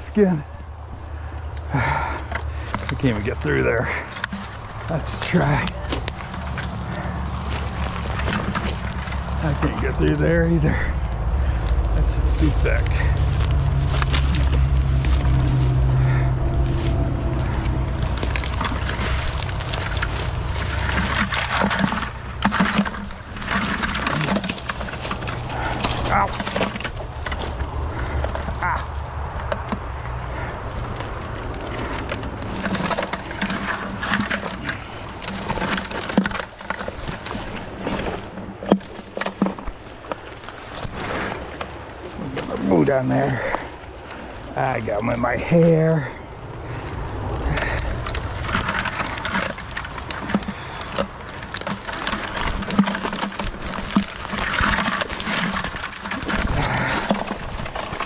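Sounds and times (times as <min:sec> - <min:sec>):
steady low rumble: 0:00.0 - 0:38.6, 0:40.8 - 0:58.0
twigs crackling and snapping: 0:00.0 - 0:58.0.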